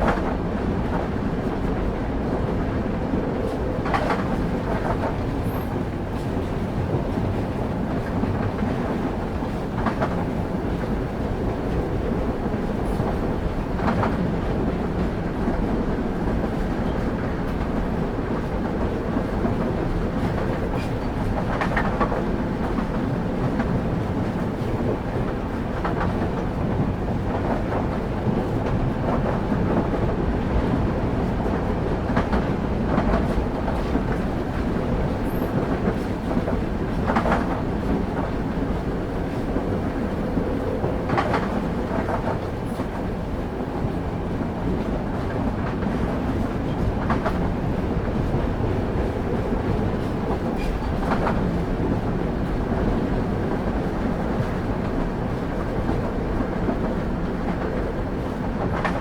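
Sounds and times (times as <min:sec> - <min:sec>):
train rumble from inside carriage: 0:00.0 - 0:59.0.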